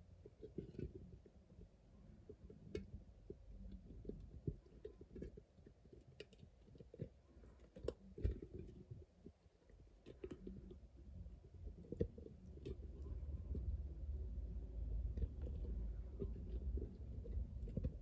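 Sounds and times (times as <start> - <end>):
faint clicks and soft knocks: 0.0 - 18.0.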